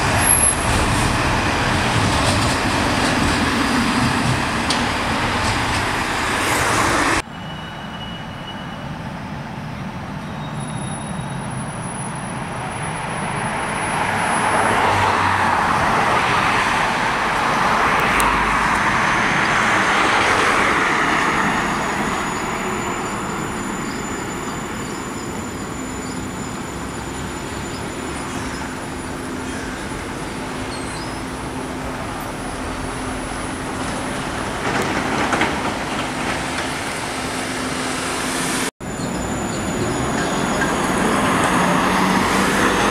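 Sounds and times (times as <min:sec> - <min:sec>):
cars passing with tyre noise: 0:00.0 - 0:42.9
tram rolling past humming: 0:00.0 - 0:42.9.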